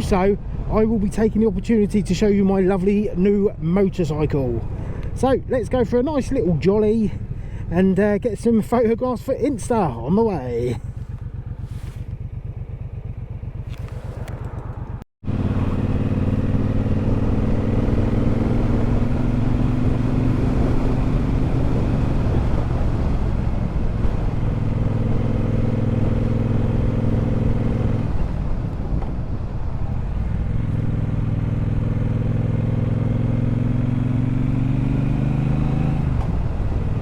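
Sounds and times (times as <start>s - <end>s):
motorcycle engine running: 4.3s - 37.0s.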